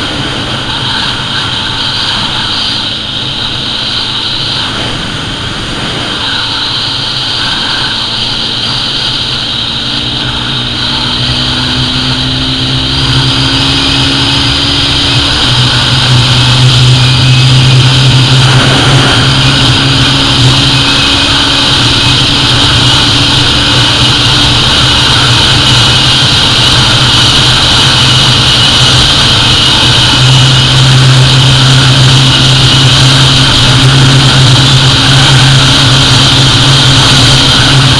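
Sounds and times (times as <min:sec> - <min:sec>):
motorcycle engine at high revs: 0:00.0 - 0:37.9
wind rush: 0:00.0 - 0:37.9.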